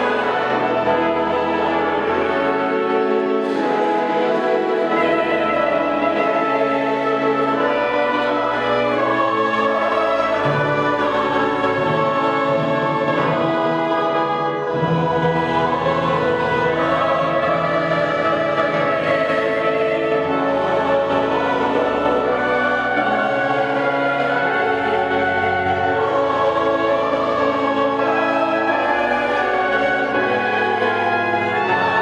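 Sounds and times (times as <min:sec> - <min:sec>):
choir singing: 0:00.0 - 0:32.0
orchestral accompaniment: 0:00.0 - 0:32.0.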